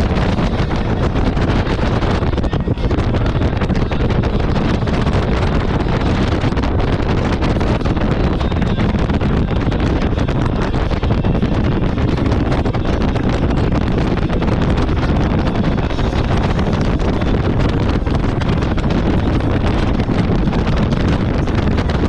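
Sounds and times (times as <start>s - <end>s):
water noise: 0.0s - 22.0s
wind buffeting microphone: 0.0s - 22.0s.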